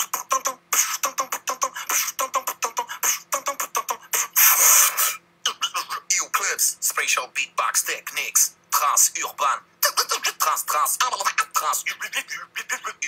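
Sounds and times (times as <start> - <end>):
long vocal hiss: 0.0 - 13.0
man beatboxing: 0.0 - 13.0.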